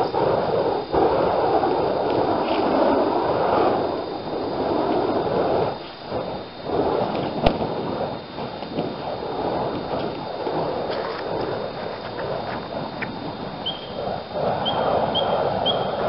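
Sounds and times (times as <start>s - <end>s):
fire hoop whooshing: 0.0s - 16.0s.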